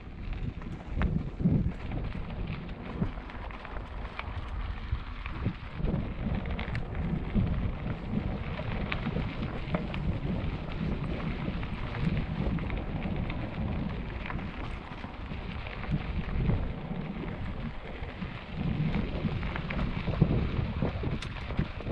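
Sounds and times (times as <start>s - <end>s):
bike tyres rolling over gravel: 0.0s - 21.9s
stones clicking under tyres: 0.0s - 21.9s.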